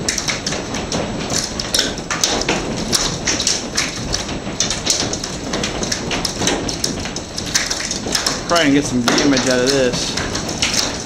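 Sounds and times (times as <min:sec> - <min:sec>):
hailstones clattering: 0:00.0 - 0:11.0.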